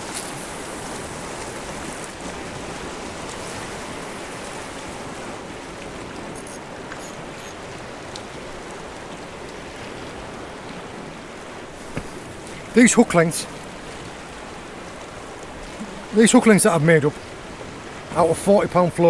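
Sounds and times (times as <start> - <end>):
surf washing on rocks: 0.0 - 19.0.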